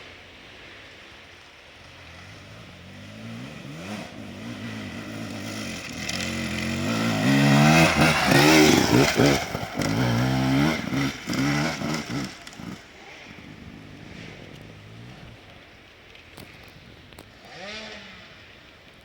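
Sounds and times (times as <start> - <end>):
motorcycle engine revving: 1.8 - 15.8, 16.5 - 18.6.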